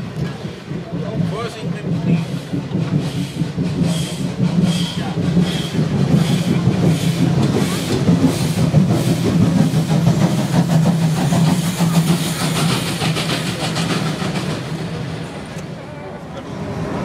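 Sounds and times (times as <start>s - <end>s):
wheels clicking on rails: 0.0s - 17.0s.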